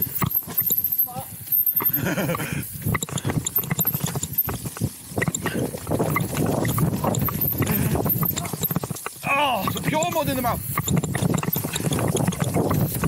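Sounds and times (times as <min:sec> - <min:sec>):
sharp knocks and clicks: 0:00.0 - 0:00.9, 0:02.8 - 0:13.0
bike rattling: 0:00.0 - 0:13.0
bike tyres rolling over dirt: 0:00.0 - 0:13.0.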